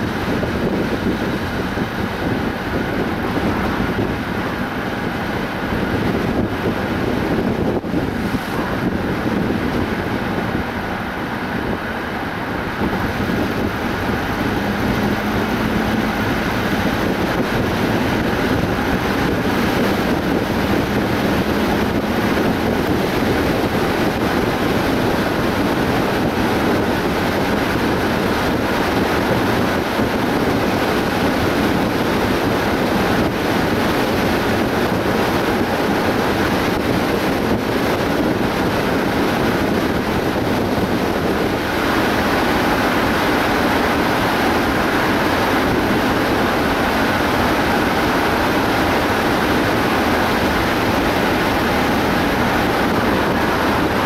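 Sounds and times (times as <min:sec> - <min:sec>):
tyre and wind noise: 0:00.0 - 0:54.0.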